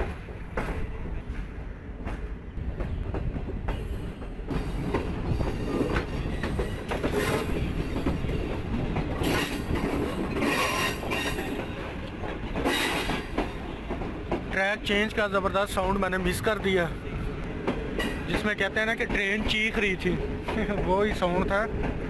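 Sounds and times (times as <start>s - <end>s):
train wheels rumbling on rails: 0.0s - 22.0s
wheels clicking over rail joints: 2.0s - 16.8s, 17.4s - 22.0s.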